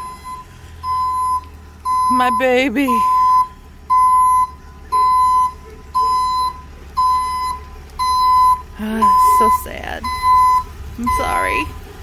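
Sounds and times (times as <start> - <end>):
reversing alarm beeping: 0.0 - 11.8
low rumble: 0.0 - 12.0.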